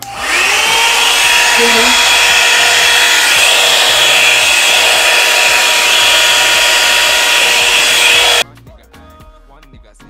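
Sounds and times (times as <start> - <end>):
hair dryer brush running: 0.0 - 8.4.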